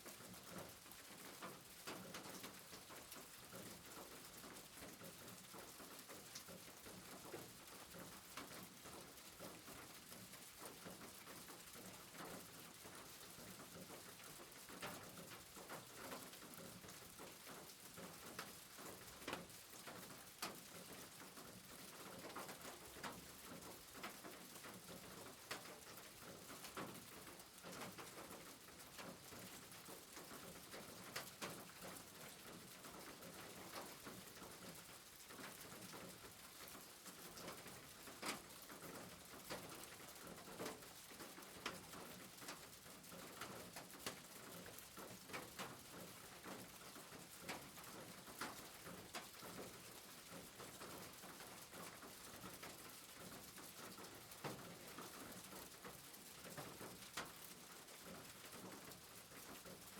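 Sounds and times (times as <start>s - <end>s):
light rain: 0.0s - 59.9s.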